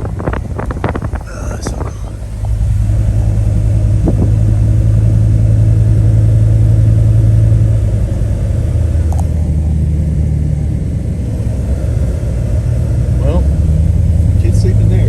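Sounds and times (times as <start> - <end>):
pickup engine droning inside cab: 0.0 - 15.0.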